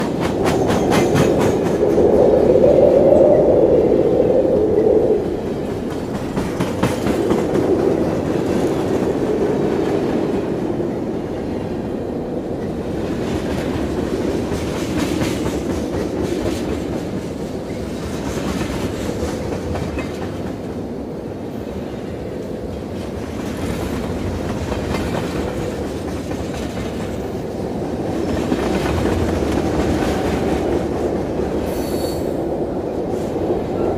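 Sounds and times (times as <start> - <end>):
train rumbling on rails: 0.0 - 33.9.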